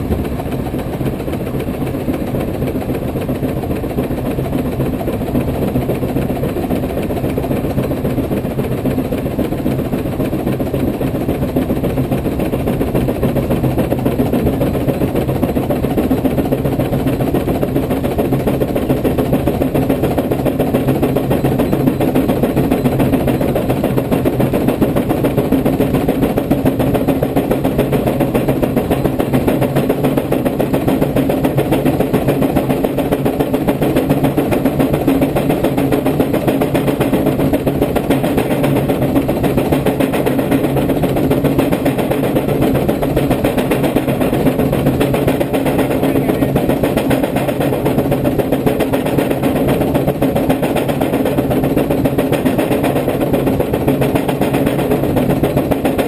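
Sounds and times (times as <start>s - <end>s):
steam engine exhaust beating: 0.0s - 56.0s.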